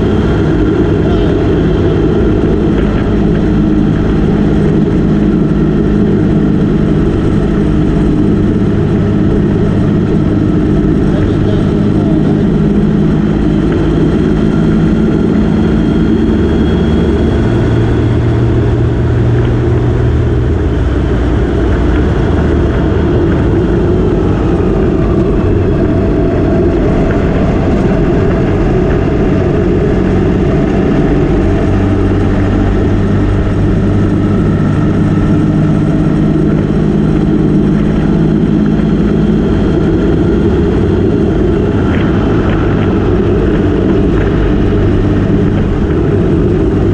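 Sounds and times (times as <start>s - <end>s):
motorcycle engine: 0.0s - 46.9s
wind rush: 0.0s - 46.9s.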